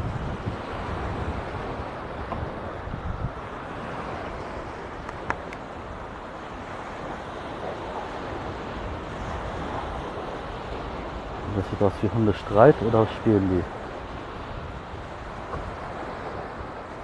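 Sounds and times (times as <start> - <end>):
waves washing onto beach: 0.0 - 17.0
wind rumbling on microphone: 0.0 - 17.0.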